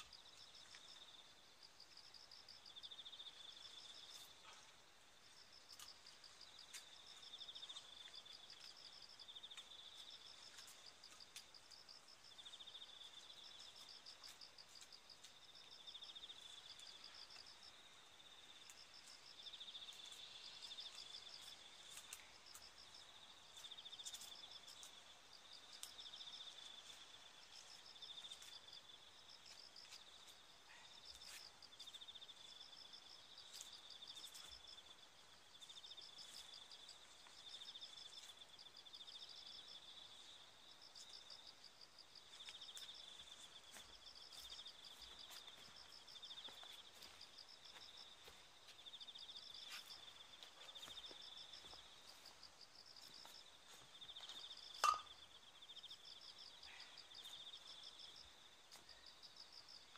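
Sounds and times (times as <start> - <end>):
insects chirping in trills: 0.0 - 59.9.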